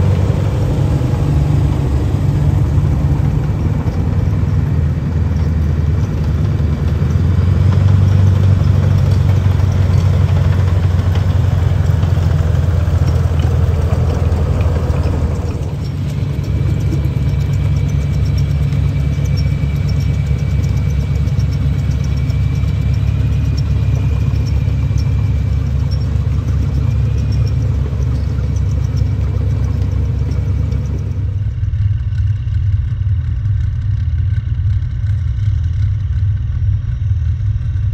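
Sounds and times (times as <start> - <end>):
tracked vehicle engine rumble: 0.0 - 37.9.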